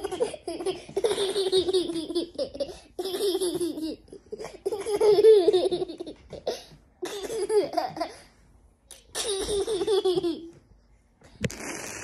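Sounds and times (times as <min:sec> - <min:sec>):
toddler boy laughing: 0:00.0 - 0:08.3, 0:09.1 - 0:10.6.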